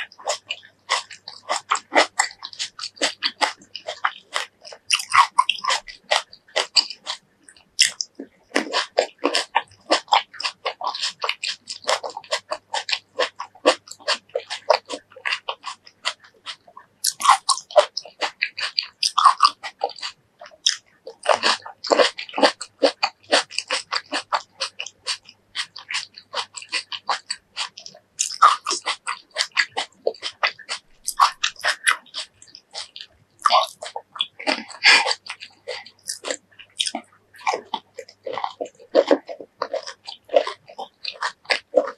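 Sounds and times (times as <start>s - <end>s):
wet crunching of fruit chewing: 0.0s - 41.9s.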